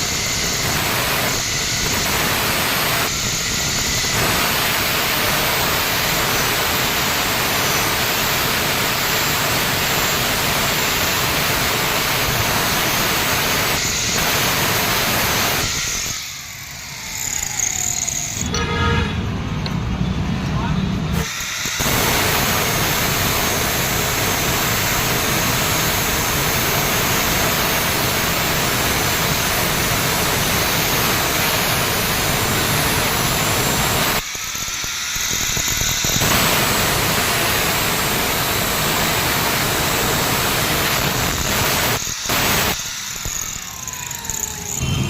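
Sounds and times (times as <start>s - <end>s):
grinding wheel grinding drill bit: 0.0s - 18.6s, 21.2s - 45.0s.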